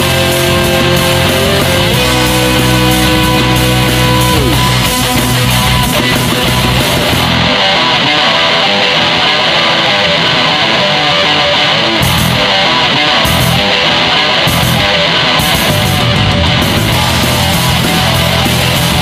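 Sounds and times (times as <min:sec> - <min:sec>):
loud rock music: 0:00.0 - 0:19.0.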